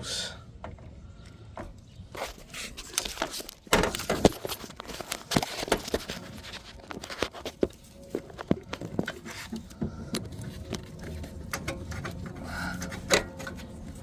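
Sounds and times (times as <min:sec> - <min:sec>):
hose handling clicks and knocks: 0:01.6 - 0:14.0.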